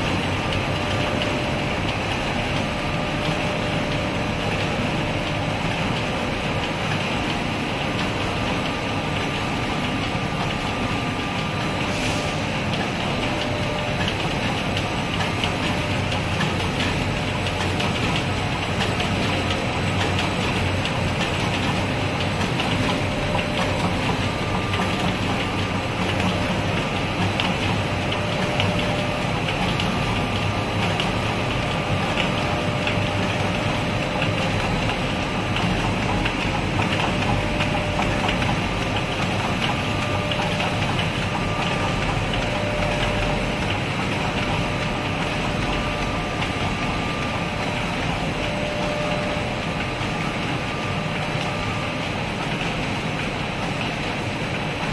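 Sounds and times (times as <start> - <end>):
machine mechanical hum: 0.0 - 54.9.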